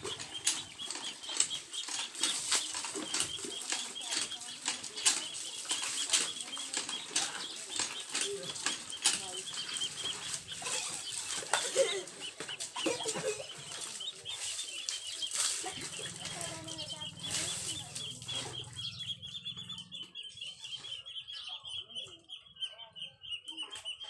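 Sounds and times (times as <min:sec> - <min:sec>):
water splashing and sloshing: 0:00.0 - 0:19.8.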